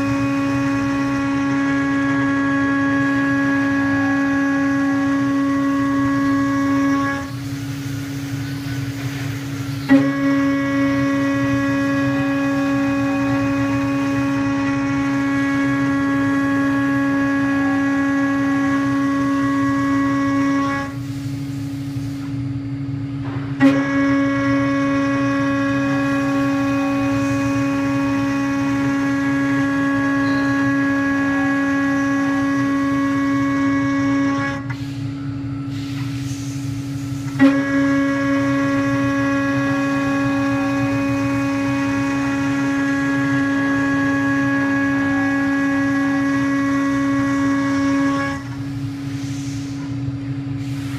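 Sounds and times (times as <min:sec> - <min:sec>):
router spindle whining while milling metal: 0:00.0 - 0:21.1, 0:23.6 - 0:35.8, 0:36.6 - 0:49.1
low machine running noise: 0:00.0 - 0:50.9.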